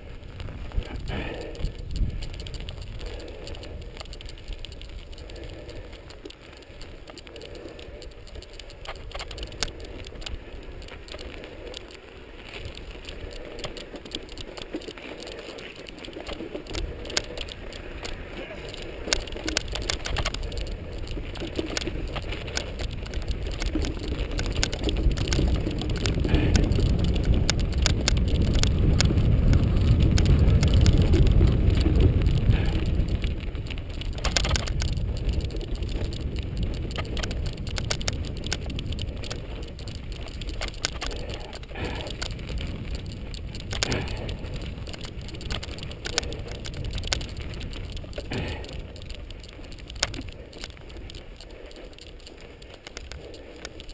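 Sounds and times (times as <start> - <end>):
bike rattling over bumps: 0.0 - 53.9
bike tyres crackling on dirt: 0.0 - 53.9
small clicks: 0.0 - 53.9
wind rumble on microphone: 0.0 - 53.9.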